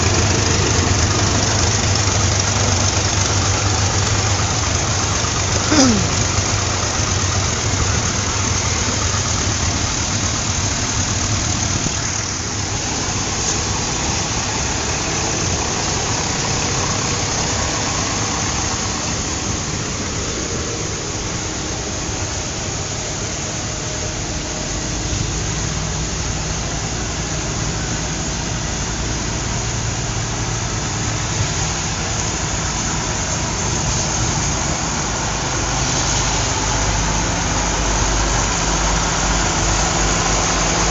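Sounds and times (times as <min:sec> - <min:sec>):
deep engine rumble: 0:00.0 - 0:40.9
tractor engines running: 0:00.0 - 0:40.9.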